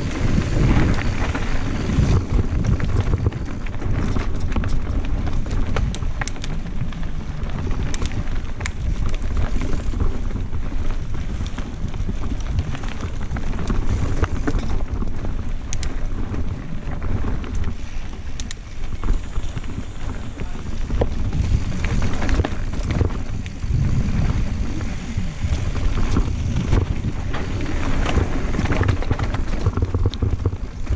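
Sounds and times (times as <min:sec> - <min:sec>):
stones and bike rattling: 0:00.0 - 0:30.9
tyres rolling over dirt and stones: 0:00.0 - 0:30.9
wind buffeting microphone: 0:00.0 - 0:30.9.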